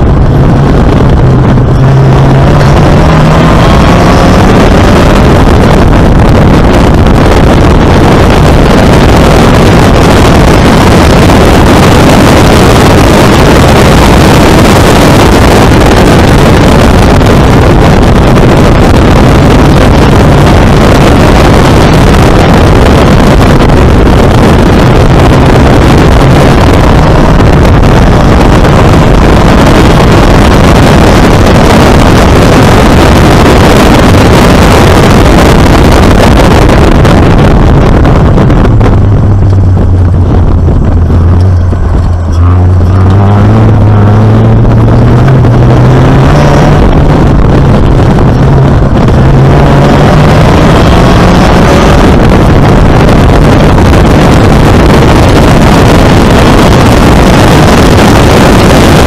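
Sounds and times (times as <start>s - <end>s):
car engine running hard: 0.0s - 59.0s
wind buffeting microphone: 0.0s - 59.0s.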